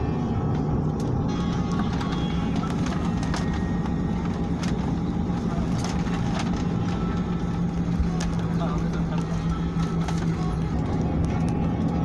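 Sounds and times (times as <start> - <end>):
engine and air-conditioning hum: 0.0 - 12.0
low steady drone: 0.0 - 12.0.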